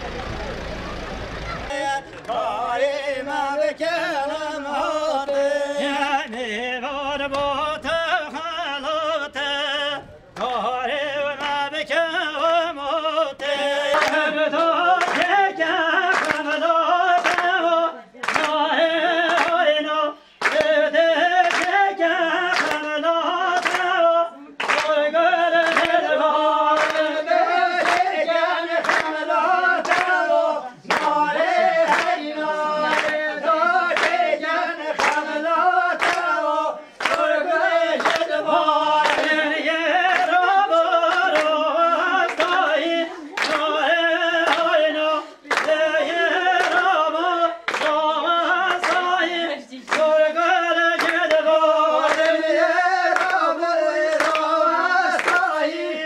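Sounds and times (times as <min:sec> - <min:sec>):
women singing together: 0:01.3 - 0:56.0
steady hand-clapping: 0:02.1 - 0:02.4, 0:10.4 - 0:55.8.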